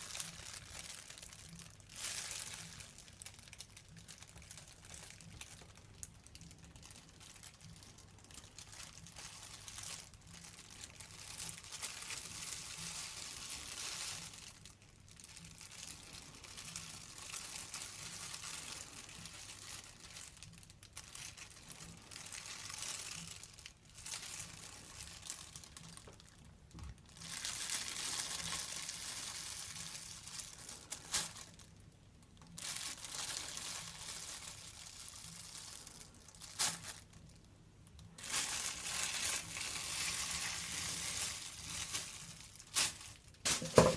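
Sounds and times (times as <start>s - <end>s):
plastic shower cap crinkling: 0.0s - 43.9s.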